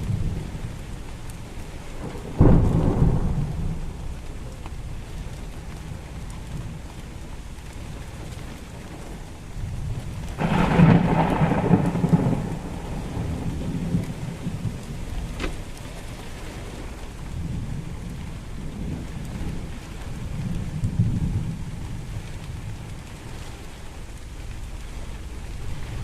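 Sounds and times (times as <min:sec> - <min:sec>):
steady rain: 0:00.0 - 0:26.0
thunder crack and rumble: 0:00.0 - 0:26.0.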